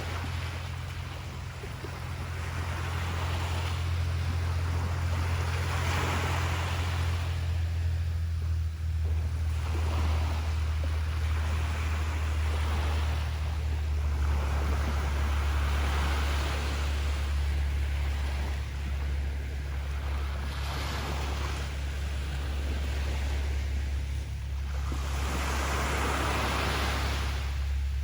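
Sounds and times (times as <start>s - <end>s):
constant low rumble: 0.0s - 28.0s
ocean surf washing onto beach: 0.0s - 28.0s.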